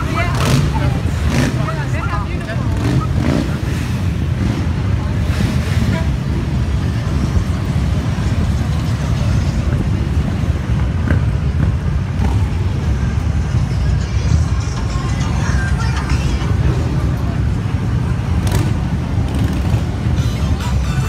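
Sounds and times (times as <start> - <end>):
motorcycles riding past: 0.0 - 13.4, 15.1 - 21.0.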